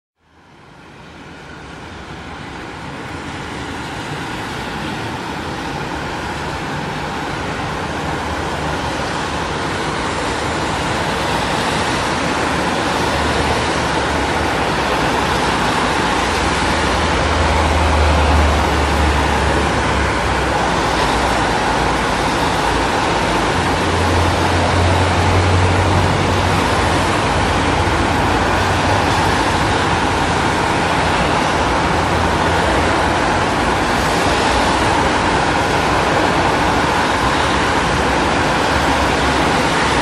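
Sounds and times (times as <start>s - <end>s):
city street traffic: 0.2s - 40.0s.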